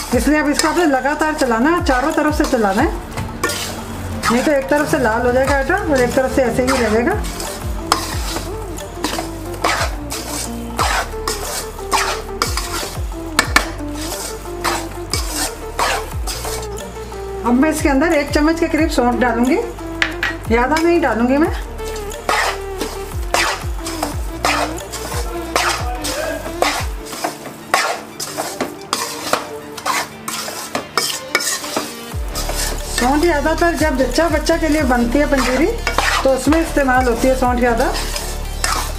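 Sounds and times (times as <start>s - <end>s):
metal spatula scraping a pan: 0.0s - 17.8s, 19.2s - 38.9s
low sizzle: 0.0s - 38.9s.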